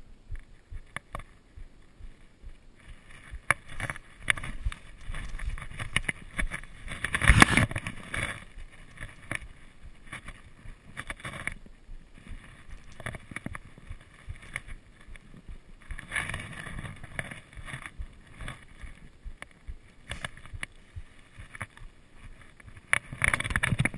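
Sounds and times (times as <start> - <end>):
rustling and knocking on microphone: 0.0 - 23.9.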